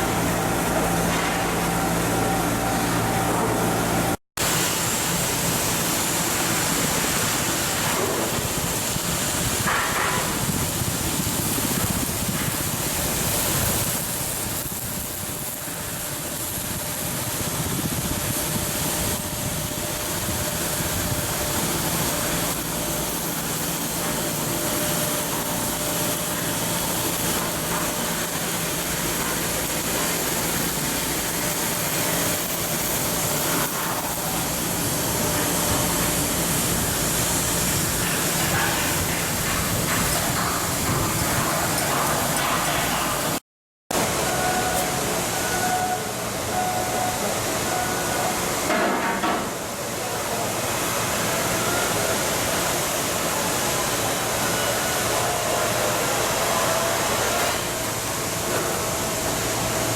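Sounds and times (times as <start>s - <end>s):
machinery noise: 0.0s - 59.9s.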